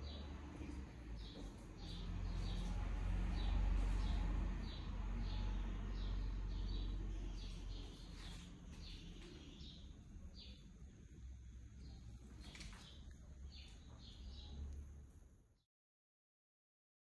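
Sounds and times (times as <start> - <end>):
small bird chirping: 0.0 - 11.1, 11.8 - 14.9.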